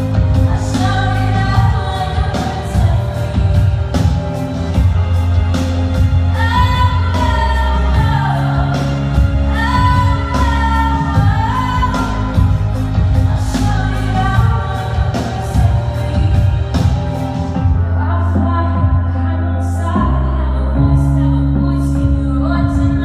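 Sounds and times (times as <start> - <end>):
woman singing into a microphone: 0.0 - 5.0, 6.2 - 23.0
instrumental music with steady beat: 0.0 - 23.0.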